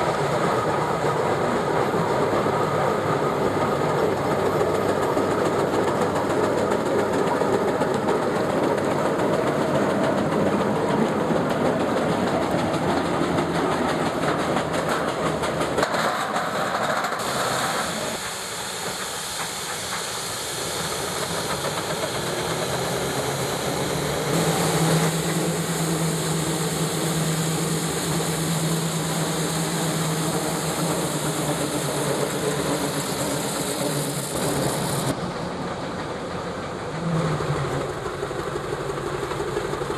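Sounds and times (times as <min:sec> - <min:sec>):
steam hissing: 0:00.0 - 0:39.9
steam traction engine running: 0:00.0 - 0:39.9.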